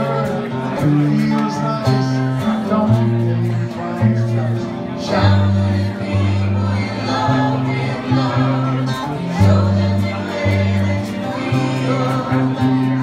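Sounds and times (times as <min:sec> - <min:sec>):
group singing along: 0:00.0 - 0:13.0
low held bass notes: 0:00.0 - 0:13.0
strummed acoustic guitar: 0:00.0 - 0:13.0.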